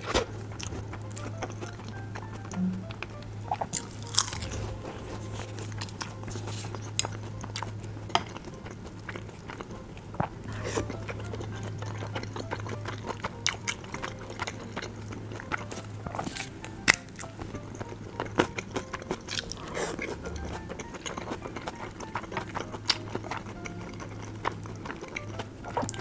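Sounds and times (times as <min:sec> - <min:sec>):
chewing a dumpling: 0:00.0 - 0:26.0
steady low hum: 0:00.0 - 0:26.0.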